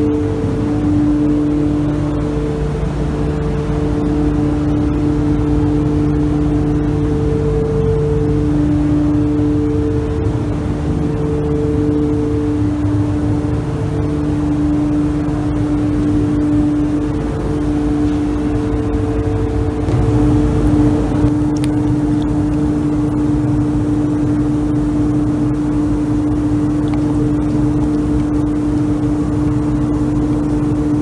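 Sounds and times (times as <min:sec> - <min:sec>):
machine hum with held tones: 0:00.0 - 0:31.0
low rumble: 0:02.0 - 0:30.3.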